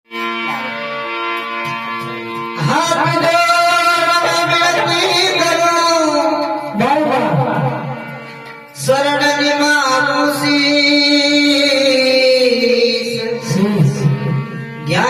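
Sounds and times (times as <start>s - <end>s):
musical accompaniment: 0.1s - 15.0s.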